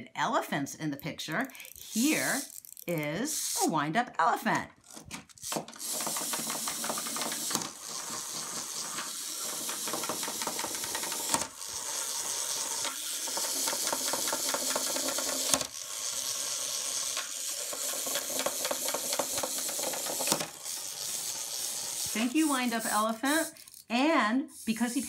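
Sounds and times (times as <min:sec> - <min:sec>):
clockwork toy ticking and whirring: 0:01.3 - 0:03.0, 0:05.6 - 0:25.0.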